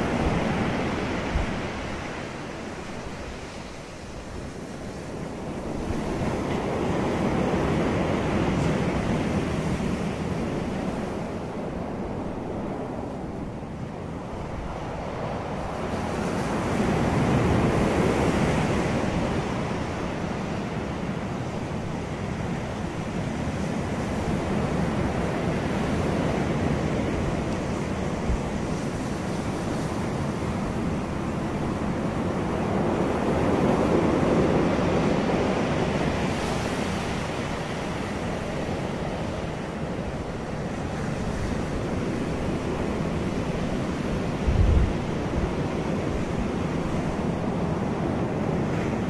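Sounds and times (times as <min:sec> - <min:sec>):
waves breaking on shore: 0:00.0 - 0:49.0.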